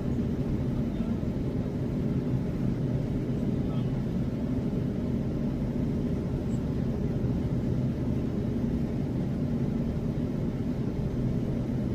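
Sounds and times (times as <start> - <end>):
low rumble in aircraft cabin: 0.0 - 11.9.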